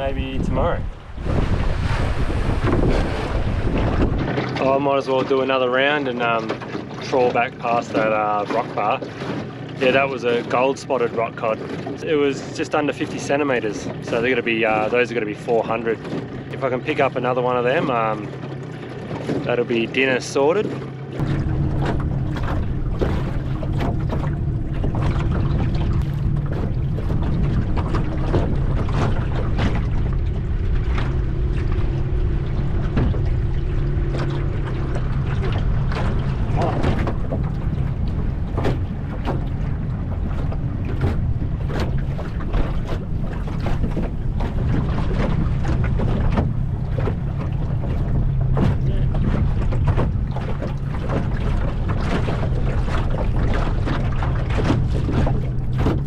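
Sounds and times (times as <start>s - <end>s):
outboard motor running: 0.0s - 56.0s
water slapping boat hull: 0.0s - 56.0s.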